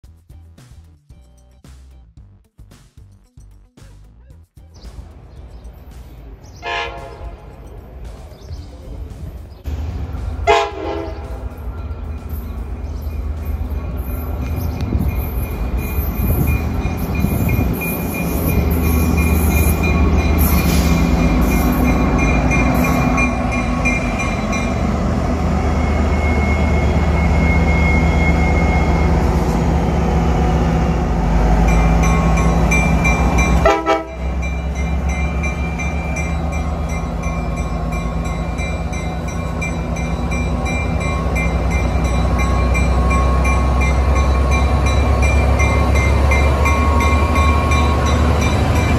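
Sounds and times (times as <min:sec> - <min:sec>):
diesel locomotive engine: 0:04.6 - 0:48.9.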